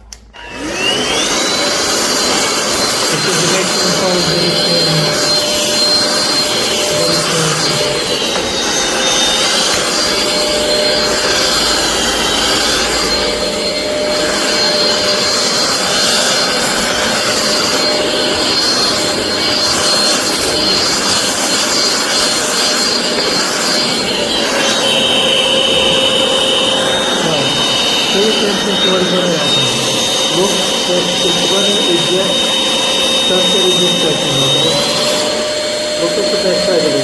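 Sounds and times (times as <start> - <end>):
stick vacuum motor whine: 0.0 - 37.0.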